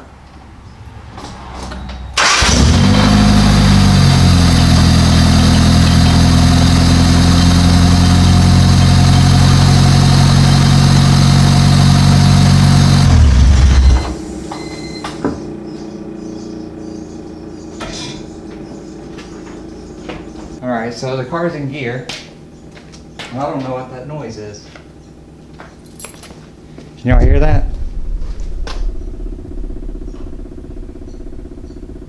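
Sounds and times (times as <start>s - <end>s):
car engine starting and idling: 0.2s - 20.6s, 24.9s - 32.0s.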